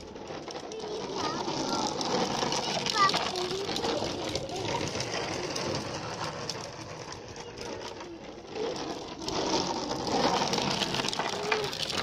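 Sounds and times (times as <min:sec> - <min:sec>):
plastic wheels rattling on concrete: 0:00.0 - 0:12.0.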